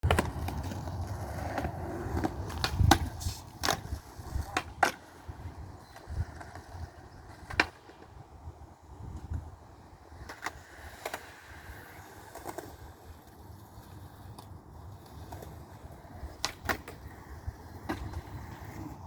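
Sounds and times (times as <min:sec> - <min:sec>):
skateboard clacks on ground: 0:00.0 - 0:08.3, 0:09.0 - 0:19.0
skateboards rolling: 0:00.0 - 0:19.0.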